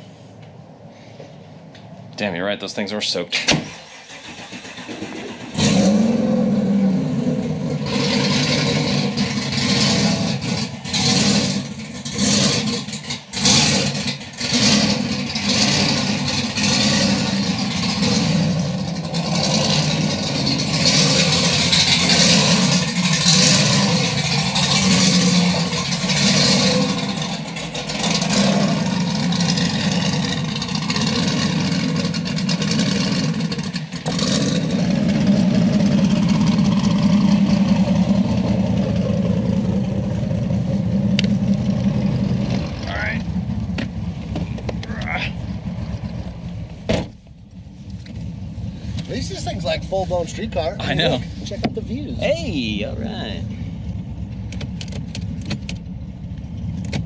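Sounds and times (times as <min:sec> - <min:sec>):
car engine starting and revving: 0:03.4 - 0:57.0.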